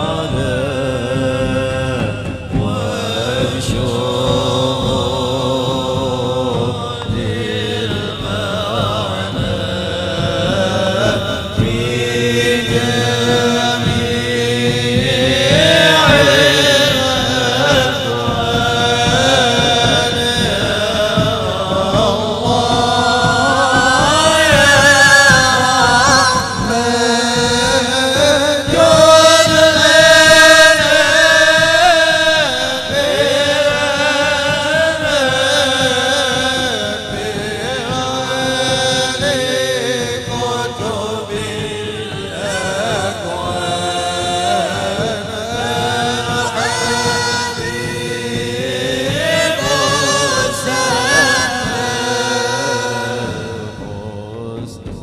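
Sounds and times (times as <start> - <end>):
voices chanting melodically: 0.0 - 55.0.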